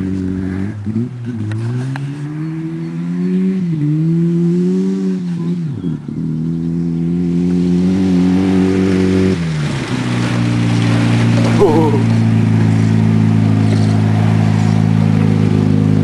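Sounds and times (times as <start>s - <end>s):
car engine driving: 0.0s - 16.0s.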